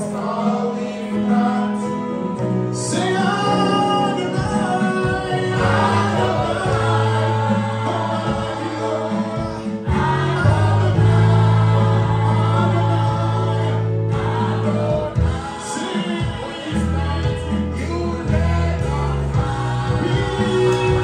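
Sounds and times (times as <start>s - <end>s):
choir singing gospel music: 0.0s - 21.0s.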